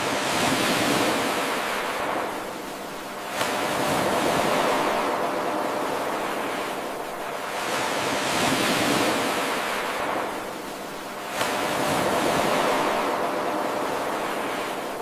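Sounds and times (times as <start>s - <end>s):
ocean surf washing in: 0.0s - 15.0s.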